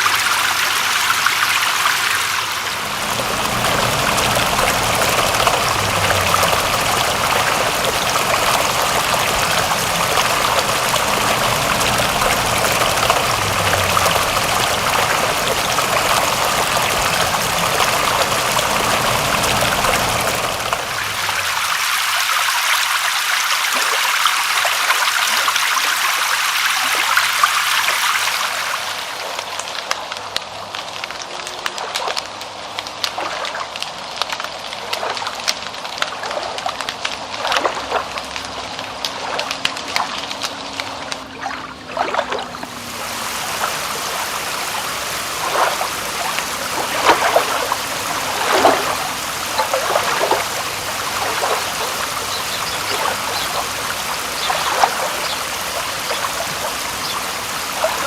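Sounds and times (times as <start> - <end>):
rain falling: 0.0 - 58.0
water trickling and splashing: 0.0 - 58.0.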